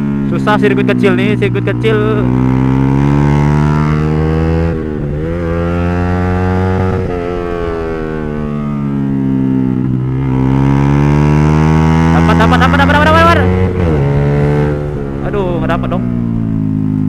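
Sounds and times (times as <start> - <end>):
motorcycle engine running hard: 0.0 - 17.0.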